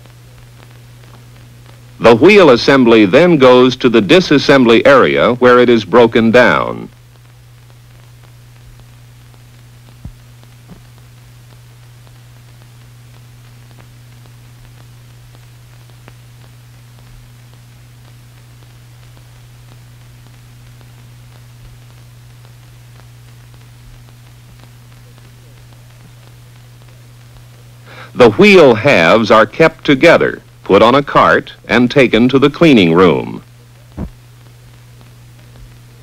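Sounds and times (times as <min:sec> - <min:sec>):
film soundtrack hum and hiss: 0:00.0 - 0:36.0.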